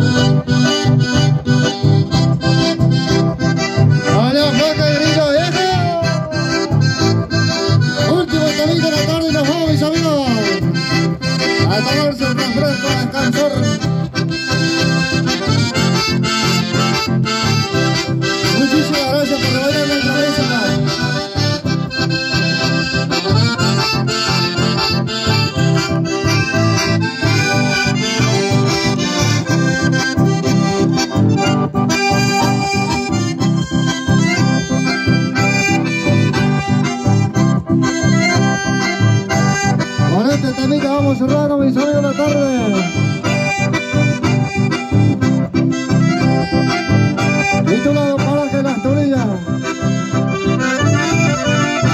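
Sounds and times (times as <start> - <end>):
accordion dance music: 0.0 - 51.9.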